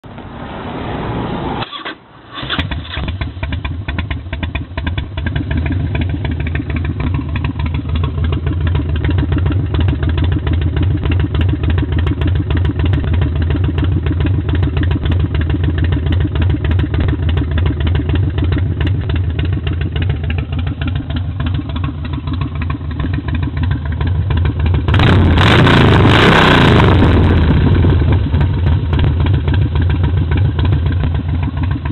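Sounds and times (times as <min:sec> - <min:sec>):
motorcycle engine idling and revving: 0:01.2 - 0:31.9.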